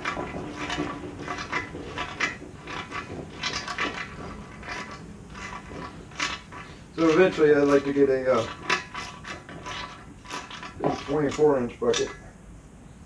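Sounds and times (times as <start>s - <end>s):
metal parts clinking and knocking: 0.0s - 12.2s.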